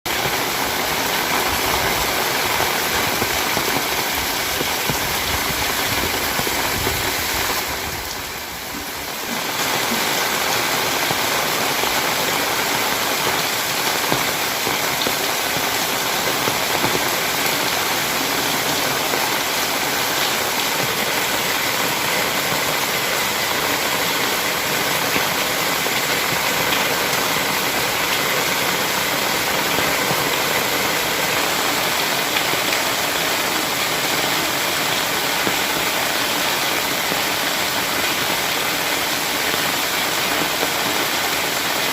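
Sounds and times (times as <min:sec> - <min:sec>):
heavy rain falling: 0:00.1 - 0:41.9.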